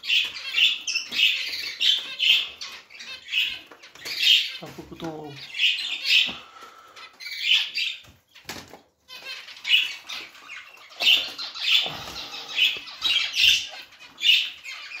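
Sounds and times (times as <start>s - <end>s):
finches giving sharp calls: 0.0s - 8.4s, 9.1s - 15.0s.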